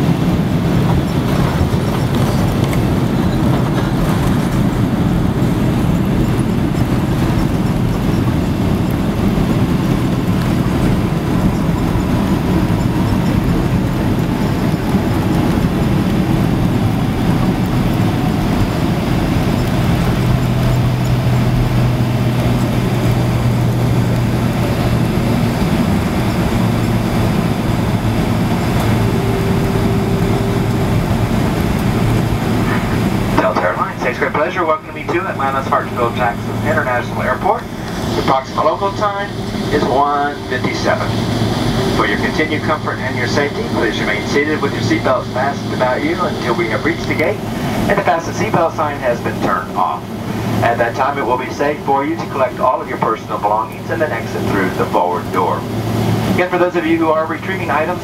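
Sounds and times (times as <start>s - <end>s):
jet engine whine falling in pitch: 0.0s - 58.0s
jet engines rumbling in cabin: 0.0s - 58.0s.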